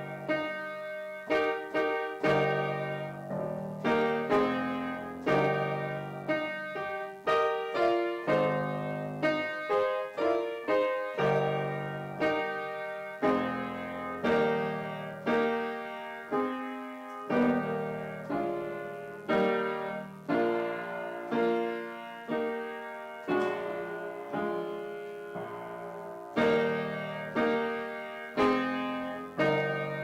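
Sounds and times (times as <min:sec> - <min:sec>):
soft upright piano chords: 0:00.0 - 0:30.0.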